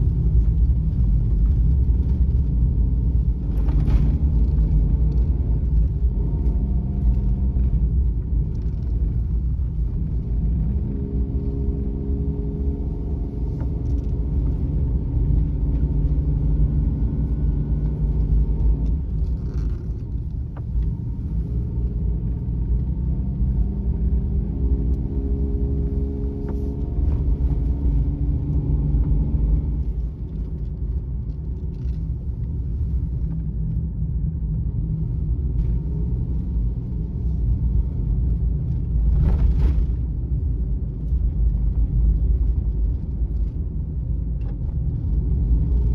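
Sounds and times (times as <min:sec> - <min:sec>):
van engine and tyres rumbling: 0:00.0 - 0:45.9.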